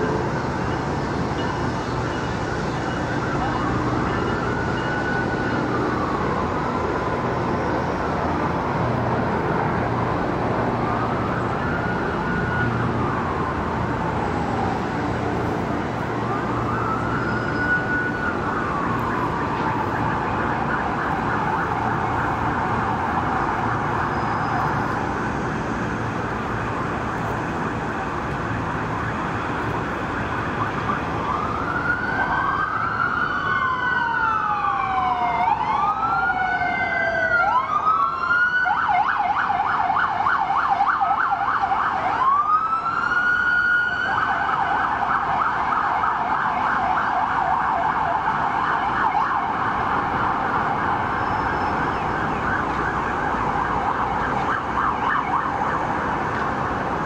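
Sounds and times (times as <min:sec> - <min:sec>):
emergency siren wailing: 0:00.0 - 0:57.0
second siren sweeping: 0:00.0 - 0:57.0.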